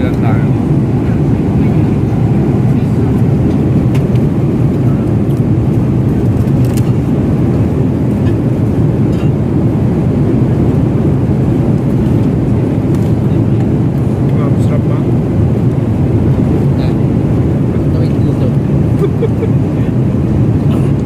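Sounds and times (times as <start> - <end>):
airliner cabin roar: 0.0 - 21.0.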